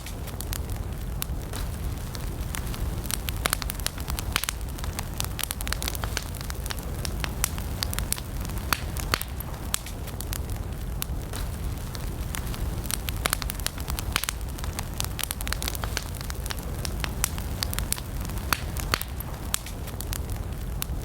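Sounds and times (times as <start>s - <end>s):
campfire crackling and popping: 0.0s - 21.0s
low rumble of flames: 0.0s - 21.0s.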